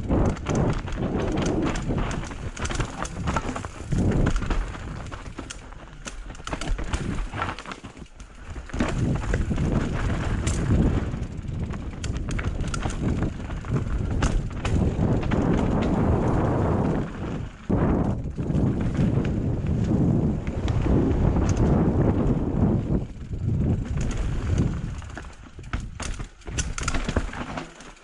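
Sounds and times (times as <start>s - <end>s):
bike tyres crunching over stones: 0.0s - 28.0s.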